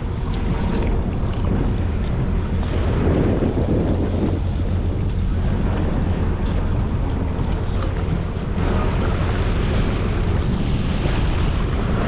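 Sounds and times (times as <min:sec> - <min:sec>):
jet ski engine drone: 0:00.0 - 0:12.0
water rushing: 0:00.0 - 0:12.0
wind buffeting the microphone: 0:00.0 - 0:12.0.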